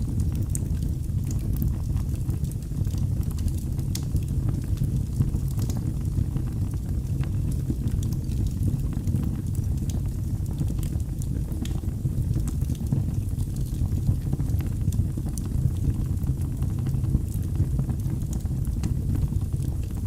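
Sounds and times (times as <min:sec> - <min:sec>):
fire crackles and pops: 0:00.0 - 0:20.0
fire flames rumbling: 0:00.0 - 0:20.0.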